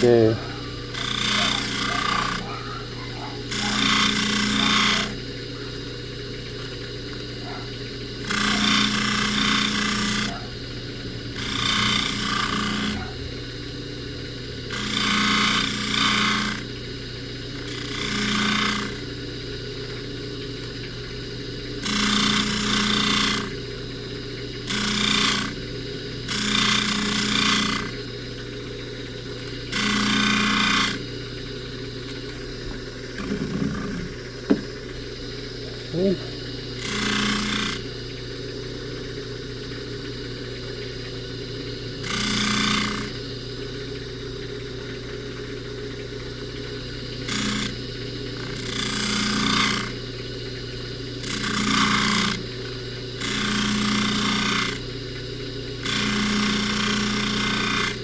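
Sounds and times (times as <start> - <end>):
necklace rasping on buffing wheel: 0.0 - 13.6, 14.3 - 35.0, 35.7 - 38.2, 39.6 - 44.0, 44.6 - 55.1, 55.7 - 58.0
buffing motor hum: 0.0 - 58.0.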